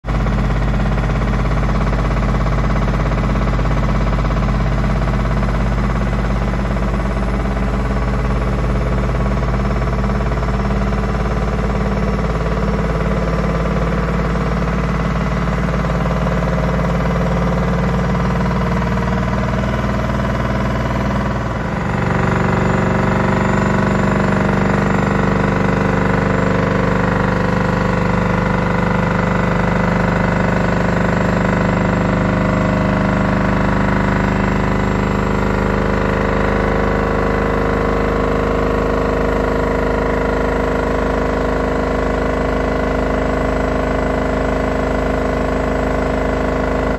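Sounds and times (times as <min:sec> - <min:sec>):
washing machine spinning loudly: 0:00.0 - 0:46.9.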